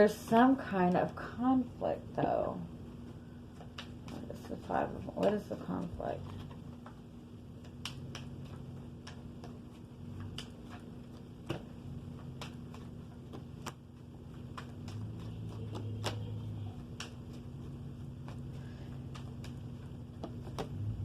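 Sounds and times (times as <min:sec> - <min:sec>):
low hum: 0:00.7 - 0:21.0
cards clicking and tapping: 0:03.5 - 0:20.8.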